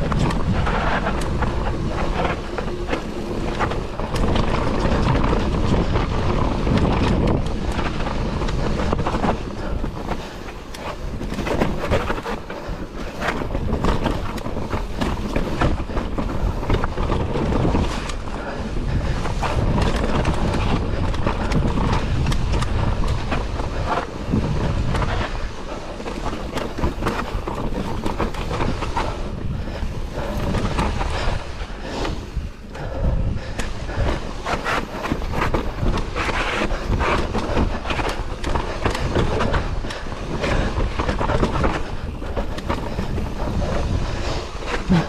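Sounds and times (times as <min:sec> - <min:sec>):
bike rattling over rocky trail: 0:00.0 - 0:45.0
wind buffeting microphone: 0:00.0 - 0:45.0.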